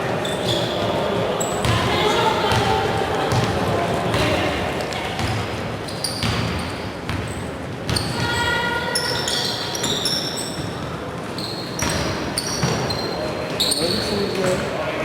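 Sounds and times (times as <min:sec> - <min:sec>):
sneakers squeaking on floor: 0:00.1 - 0:14.8
basketball bouncing on court: 0:00.5 - 0:13.1.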